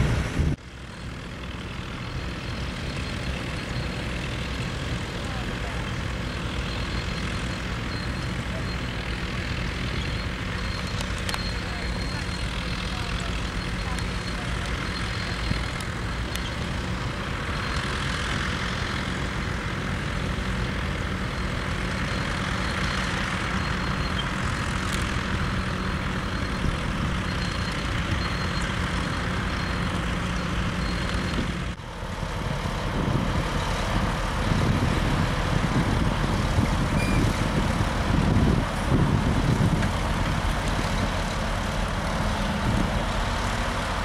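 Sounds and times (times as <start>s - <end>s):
crawler tractor engine running: 0.0s - 44.0s
loud rough tractor engine: 0.0s - 44.0s.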